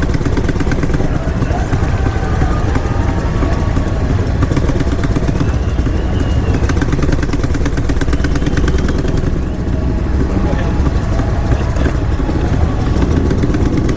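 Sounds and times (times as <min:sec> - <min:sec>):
motorcycle engines rumbling: 0:00.0 - 0:13.9.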